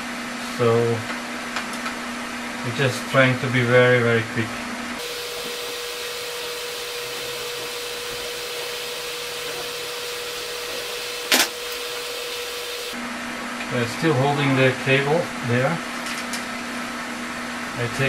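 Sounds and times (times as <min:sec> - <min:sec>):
inverter whirring hiss and hum: 0:00.0 - 0:18.0.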